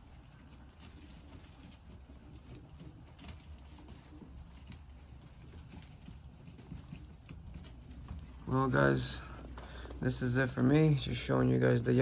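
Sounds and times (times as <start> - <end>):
pigeons tapping and shuffling: 0.0 - 12.0.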